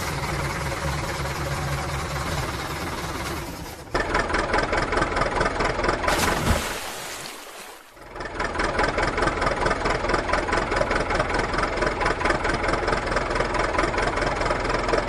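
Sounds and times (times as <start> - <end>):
rough engine chugging: 0.0 - 6.1, 8.0 - 15.0
vehicle engine running: 0.0 - 7.1, 7.8 - 15.0.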